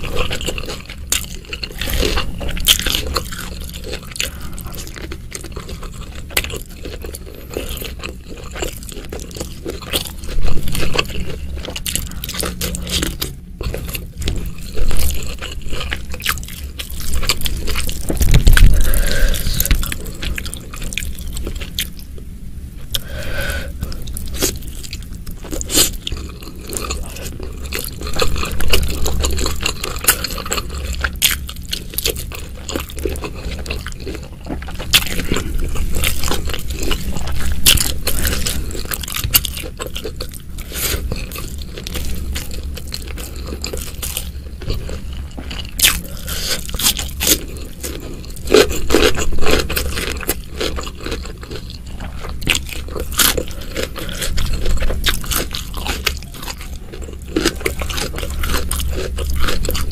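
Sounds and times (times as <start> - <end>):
wet chewing and mouth sounds: 0.0 - 59.9.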